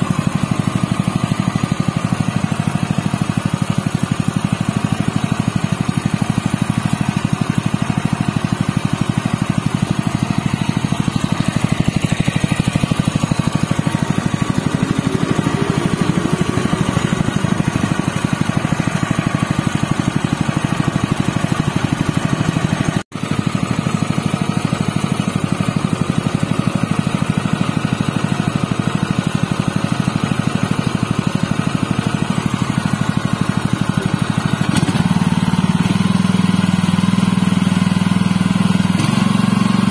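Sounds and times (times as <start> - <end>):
petrol engine running: 0.0 - 39.9.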